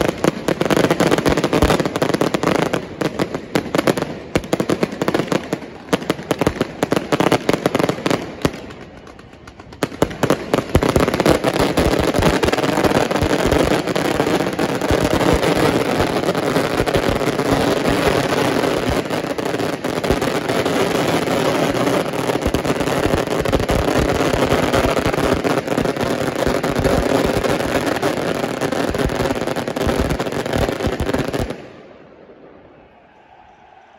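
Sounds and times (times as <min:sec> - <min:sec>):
fireworks bangs and crackles: 0:00.0 - 0:32.6.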